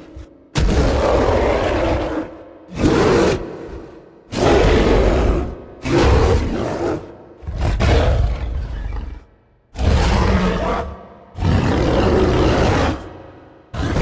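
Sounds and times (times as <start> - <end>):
imitation monster roars: 0.0 - 14.0.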